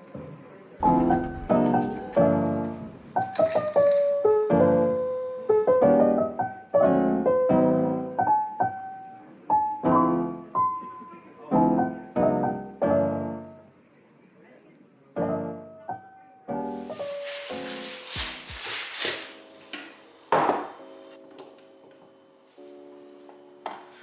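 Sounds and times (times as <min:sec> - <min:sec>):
gentle piano music: 0:00.0 - 0:13.8, 0:15.1 - 0:24.0.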